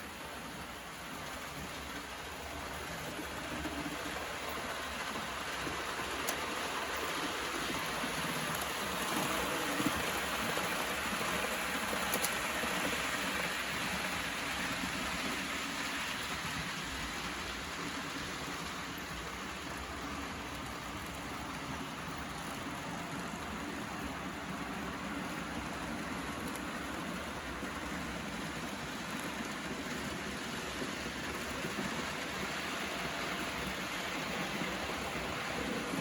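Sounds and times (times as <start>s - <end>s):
model train rumbling on track: 0.0s - 36.0s.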